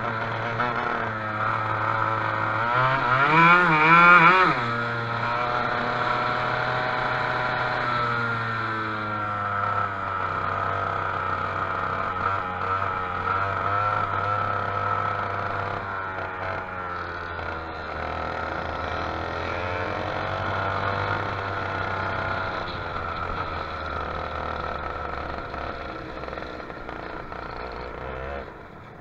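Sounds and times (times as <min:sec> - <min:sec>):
go-kart engine running: 0:00.0 - 0:29.0
other kart engines: 0:00.0 - 0:29.0.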